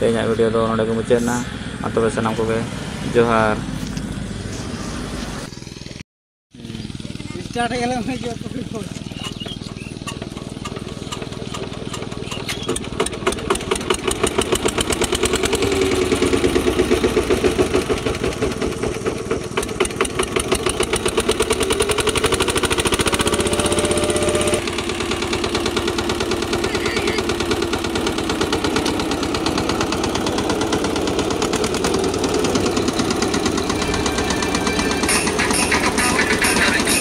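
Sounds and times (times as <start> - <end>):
diesel engine running: 0.0 - 6.0, 6.6 - 37.0.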